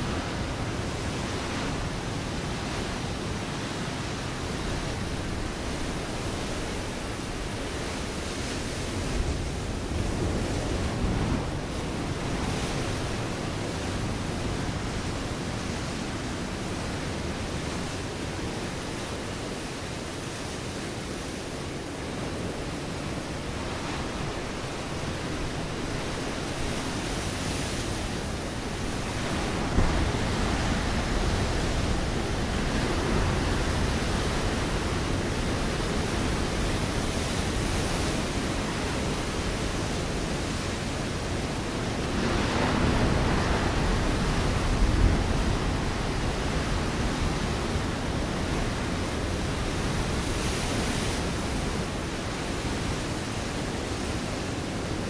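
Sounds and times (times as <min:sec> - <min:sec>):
ocean waves breaking on rocks: 0:00.0 - 0:55.0.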